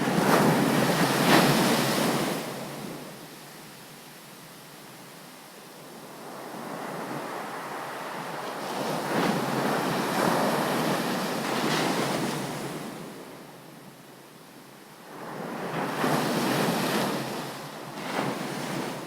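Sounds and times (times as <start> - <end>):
ocean waves breaking on beach: 0.0 - 3.3, 5.8 - 13.8, 15.0 - 19.0.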